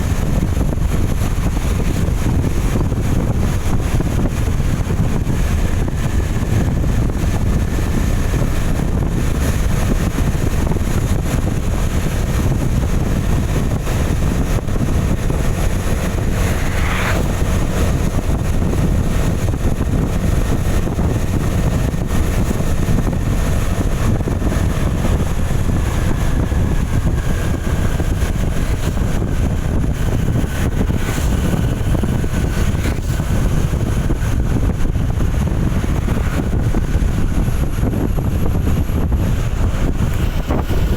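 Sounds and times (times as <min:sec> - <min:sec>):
vehicle road noise: 0:00.0 - 0:40.9
wind buffeting microphone: 0:00.0 - 0:40.9.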